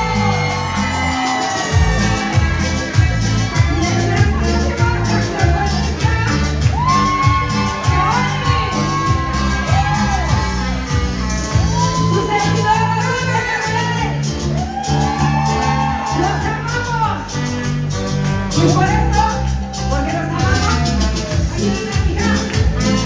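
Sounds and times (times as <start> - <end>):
latin dance music: 0.0 - 23.0.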